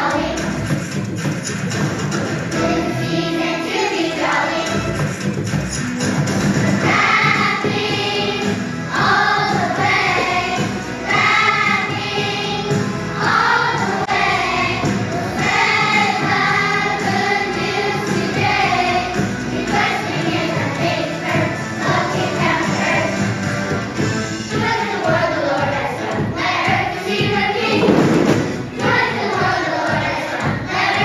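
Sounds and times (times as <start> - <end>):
children's choir singing: 0.0 - 1.0, 2.3 - 5.3, 6.6 - 31.0
instrumental accompaniment: 0.0 - 31.0.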